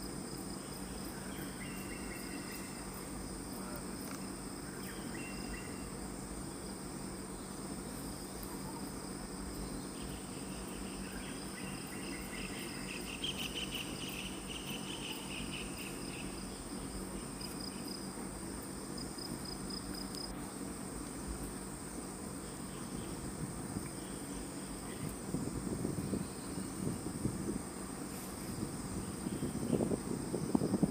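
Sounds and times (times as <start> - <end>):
pulsing insect trill: 0.0 - 30.9.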